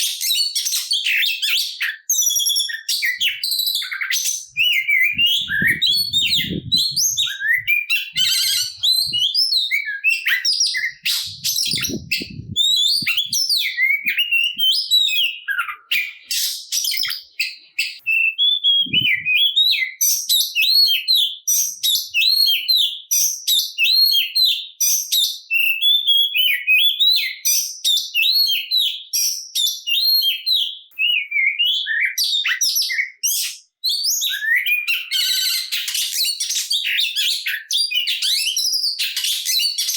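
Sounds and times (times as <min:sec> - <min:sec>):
bird singing loud song: 0:00.0 - 0:39.9.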